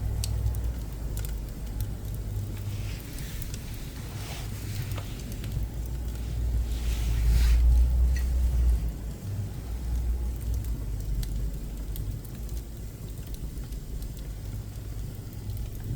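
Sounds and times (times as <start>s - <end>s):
low stove rumble: 0.0s - 15.9s
wood fire crackling and popping: 0.0s - 15.9s.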